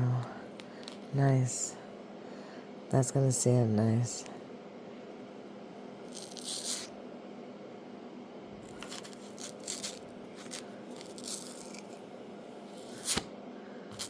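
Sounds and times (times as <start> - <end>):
faint steady low hum: 0.0 - 14.0.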